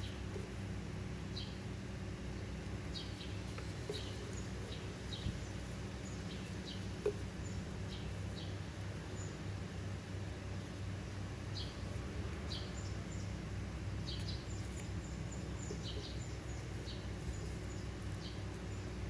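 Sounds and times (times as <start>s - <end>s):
low background hum: 0.0s - 19.0s
small birds chirping: 0.0s - 19.0s.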